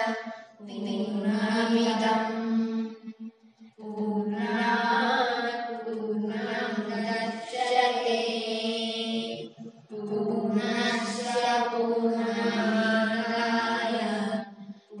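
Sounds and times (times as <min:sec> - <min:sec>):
boys chanting devotional song: 0:00.0 - 0:15.0.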